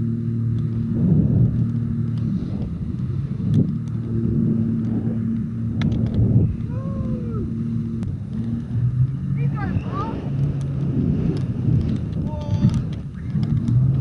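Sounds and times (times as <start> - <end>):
jet ski engine running: 0.0 - 14.0
wind noise: 0.0 - 14.0.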